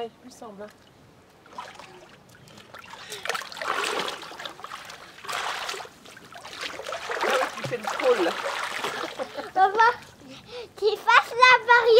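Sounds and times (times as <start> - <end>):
pool water splashing: 0.5 - 10.6.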